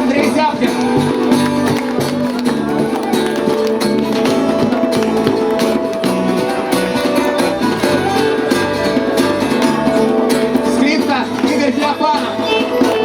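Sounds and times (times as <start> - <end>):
bass guitar: 0.0 - 13.0
hand percussion: 0.0 - 13.0
live band playing: 0.0 - 13.0.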